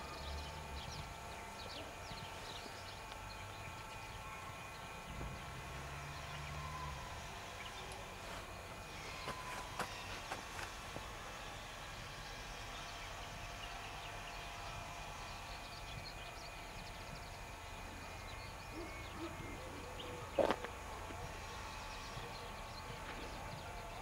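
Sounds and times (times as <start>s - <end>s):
diesel locomotive engine hum: 0.0s - 24.0s.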